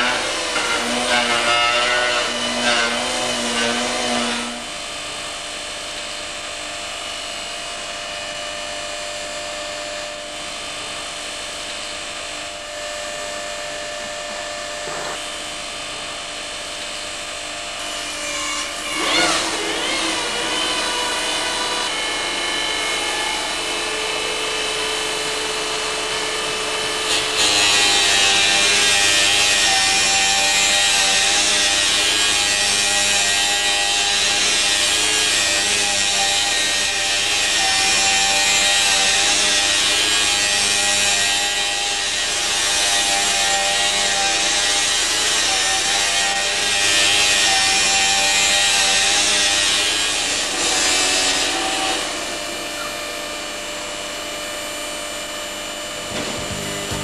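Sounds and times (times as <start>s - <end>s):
grinding wheel cutting stone: 0.0s - 5.0s, 11.3s - 57.0s
stone cutting machine whining: 0.0s - 57.0s.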